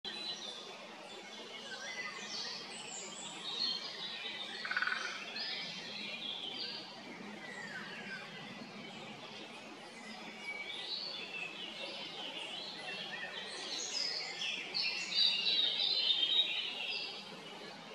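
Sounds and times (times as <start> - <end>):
birds singing and calling: 0.1 - 17.9.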